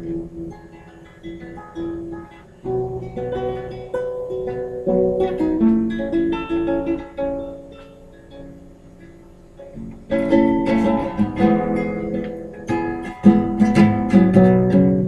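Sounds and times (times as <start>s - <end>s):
solo acoustic guitar: 0.0s - 15.0s.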